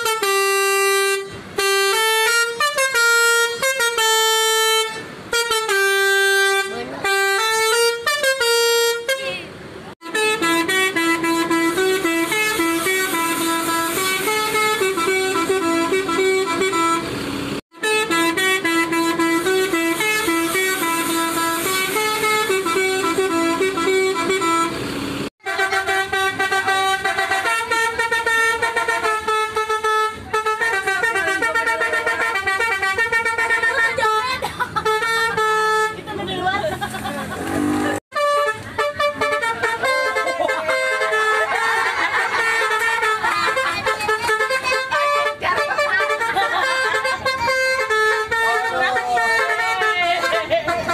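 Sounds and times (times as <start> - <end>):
multi-tone air horns playing a tune: 0.0 - 9.4, 10.0 - 17.1, 17.8 - 24.8, 25.4 - 36.0, 37.7 - 50.9.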